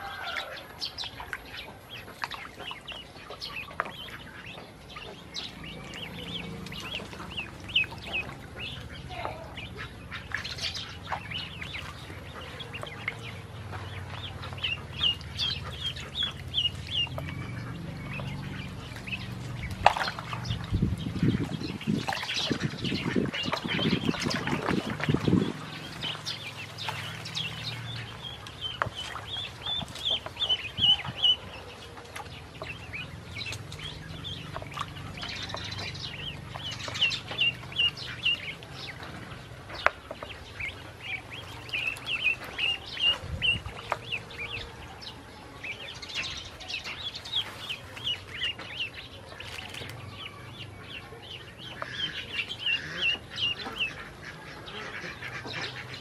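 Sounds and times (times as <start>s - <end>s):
ducklings peeping: 0.0s - 56.0s
small water splashes: 0.0s - 56.0s.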